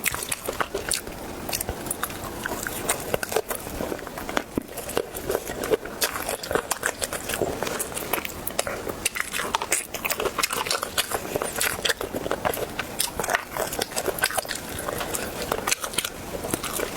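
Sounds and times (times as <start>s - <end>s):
person chewing crunchy food: 0.0s - 16.9s.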